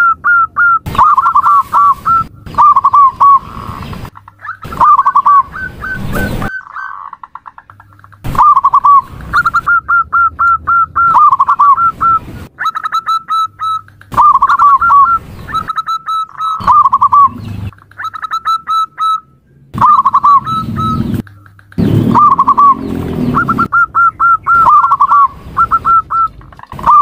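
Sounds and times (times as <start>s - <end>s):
dove cooing: 0.0s - 19.2s, 19.8s - 27.0s.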